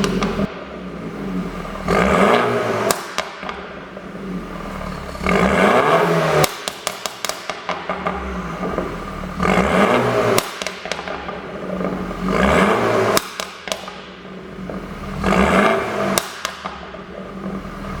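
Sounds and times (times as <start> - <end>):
car engine revving: 0.0 - 18.0
exhaust pops and crackles: 0.0 - 18.0.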